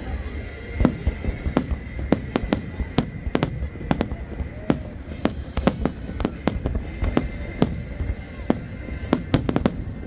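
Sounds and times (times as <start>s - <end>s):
fireworks bangs: 0.5s - 10.0s.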